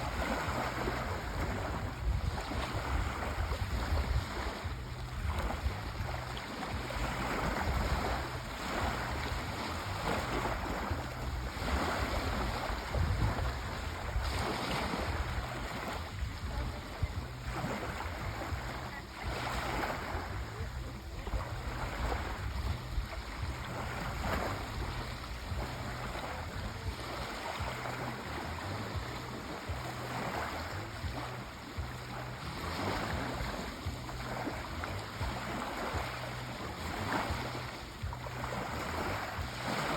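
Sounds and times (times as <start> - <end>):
low surf rumble: 0.0 - 39.5
sea waves washing: 0.0 - 39.9.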